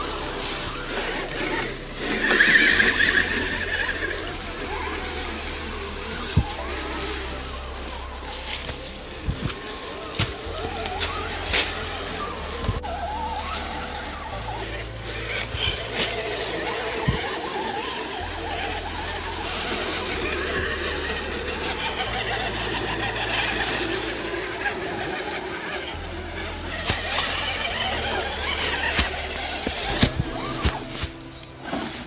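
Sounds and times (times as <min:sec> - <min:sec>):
leaves rustling: 0:00.0 - 0:32.0
small electric motors whining: 0:00.0 - 0:32.0.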